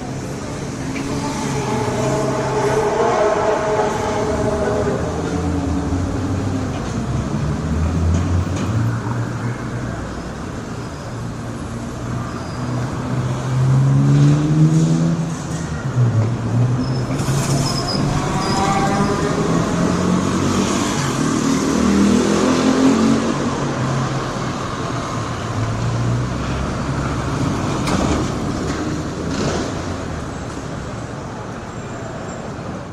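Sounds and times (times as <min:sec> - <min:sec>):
passing vehicle engines: 0:00.0 - 0:32.9
road traffic noise: 0:00.0 - 0:32.9.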